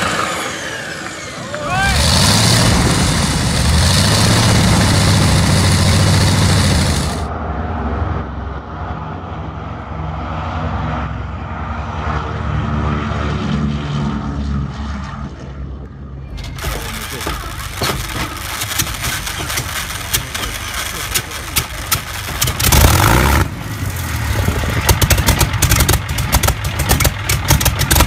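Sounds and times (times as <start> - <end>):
loud radial aircraft engine running: 0.0 - 28.0
aircraft engines pulsing rumble: 0.7 - 28.0.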